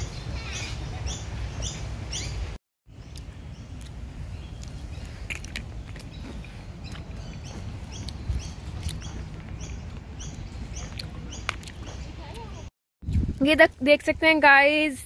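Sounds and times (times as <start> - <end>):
small bird chirping: 0.0 - 12.7.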